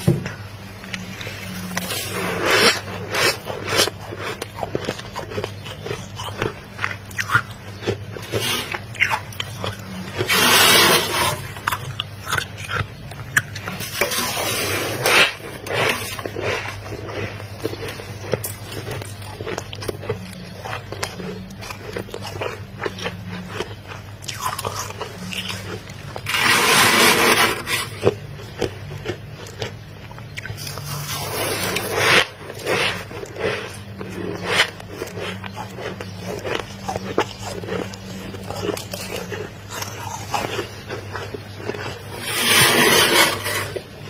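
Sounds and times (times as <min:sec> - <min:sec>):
freezer frost crunching: 0:00.0 - 0:44.0
low steady hum: 0:00.0 - 0:44.0.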